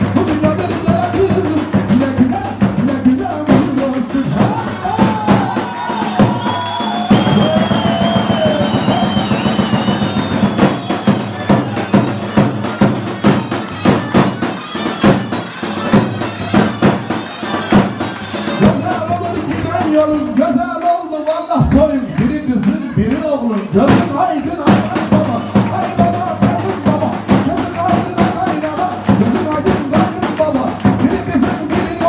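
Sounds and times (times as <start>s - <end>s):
steady drum beat: 0.0s - 32.0s.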